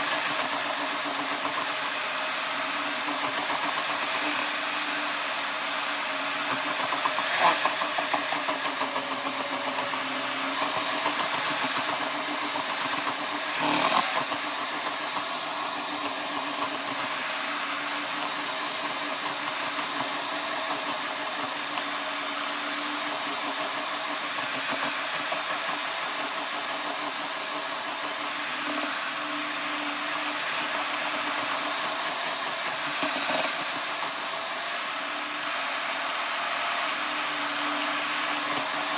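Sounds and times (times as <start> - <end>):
electric mixer whining: 0.0 - 38.9.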